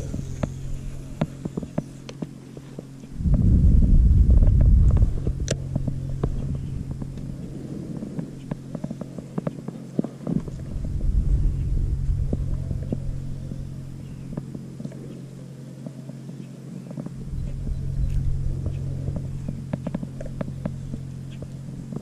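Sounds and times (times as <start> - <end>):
electric trolling motor hum: 0.0 - 22.0
wind rumble on microphone: 0.0 - 22.0.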